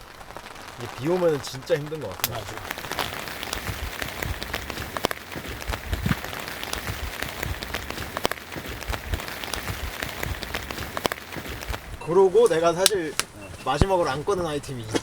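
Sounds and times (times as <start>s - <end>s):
rain falling steadily: 0.0s - 15.0s.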